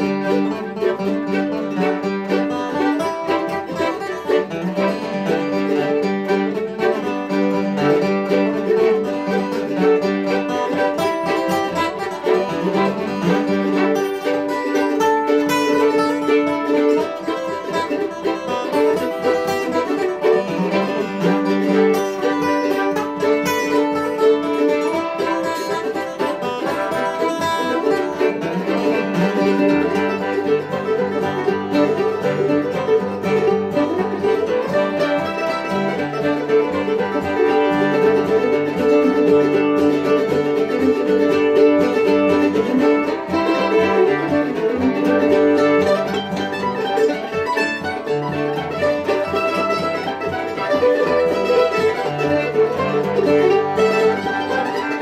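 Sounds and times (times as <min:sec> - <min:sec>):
fiddle melody: 0:00.0 - 0:55.0
plucked string instrument: 0:00.0 - 0:55.0
strummed acoustic guitar: 0:00.0 - 0:55.0.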